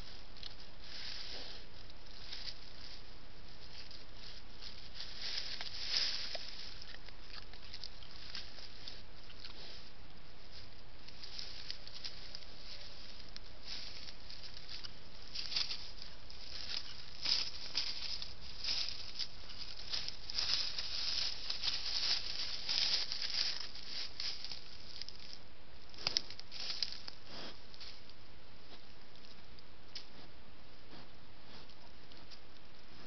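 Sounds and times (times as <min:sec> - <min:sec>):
rustling and crackling of twigs: 0:00.0 - 0:30.2
recorder hiss: 0:00.0 - 0:33.0.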